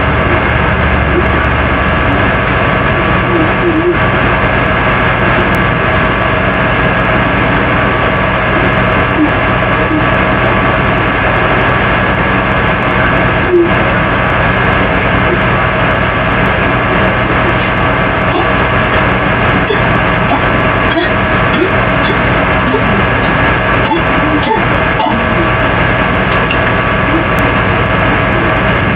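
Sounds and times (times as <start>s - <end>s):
electrical hum and hiss: 0.0s - 28.9s
steady tones: 0.0s - 28.9s.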